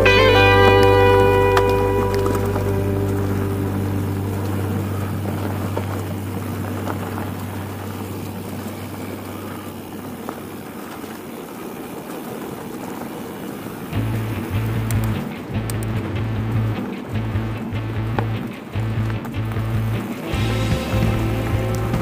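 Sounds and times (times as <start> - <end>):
low hum: 0.0 - 11.2, 13.9 - 22.0
bike rattles: 0.0 - 22.0
bike tyres rolling over dirt: 0.0 - 22.0.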